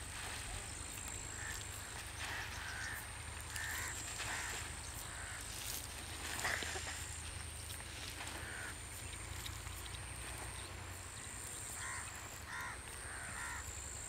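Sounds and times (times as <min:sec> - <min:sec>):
birds calling: 0:00.4 - 0:14.0.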